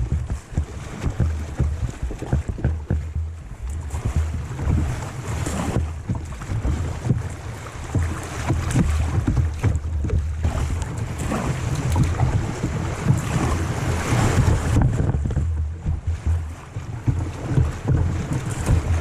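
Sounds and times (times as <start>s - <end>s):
water splashing against kayak: 0.0s - 19.0s
wind buffeting microphone: 0.0s - 19.0s.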